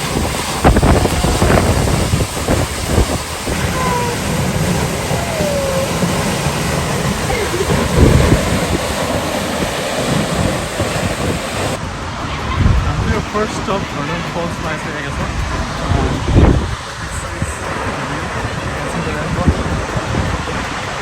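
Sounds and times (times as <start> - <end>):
waterfall rushing: 0.0 - 21.0
wind buffeting microphone: 0.0 - 21.0.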